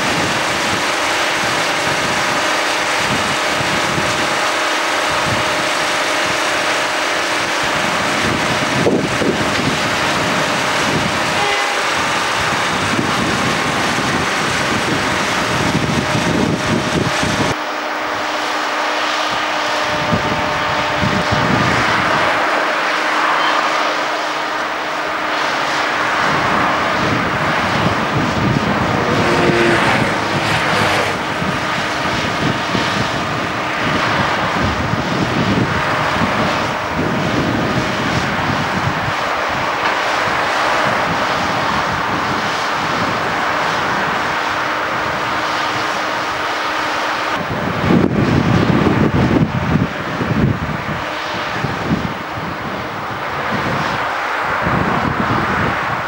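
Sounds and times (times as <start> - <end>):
crane diesel engine running: 0.0 - 56.0.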